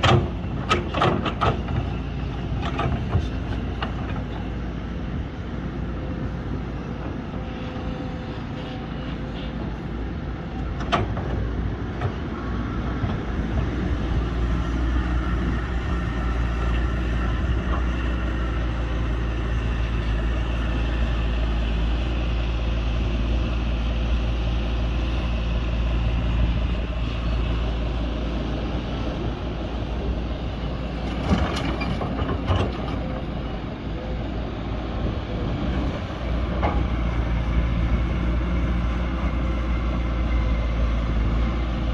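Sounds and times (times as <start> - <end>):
diesel excavator engine rumbling: 0.0 - 41.9.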